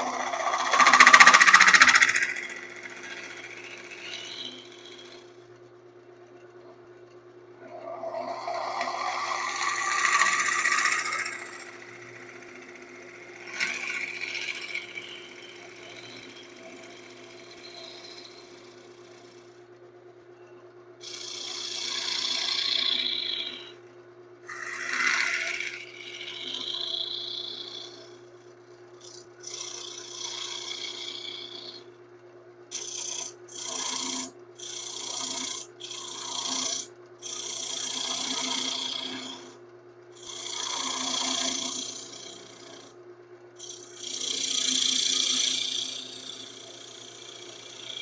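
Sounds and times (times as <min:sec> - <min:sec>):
tool scraping spinning wood: 0:00.0 - 0:05.4, 0:07.6 - 0:19.6, 0:21.0 - 0:23.8, 0:24.5 - 0:31.9, 0:32.7 - 0:43.0, 0:43.6 - 0:48.0
woodturning lathe humming: 0:00.0 - 0:05.4, 0:07.6 - 0:19.5, 0:21.0 - 0:23.8, 0:24.5 - 0:28.4, 0:29.0 - 0:31.9, 0:32.7 - 0:39.6, 0:40.2 - 0:43.0, 0:43.6 - 0:48.0.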